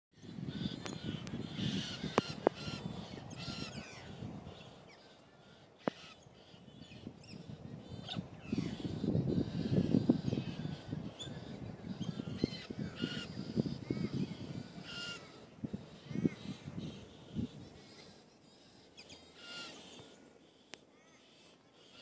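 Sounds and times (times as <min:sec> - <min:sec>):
birds screeching: 0:00.2 - 0:22.0.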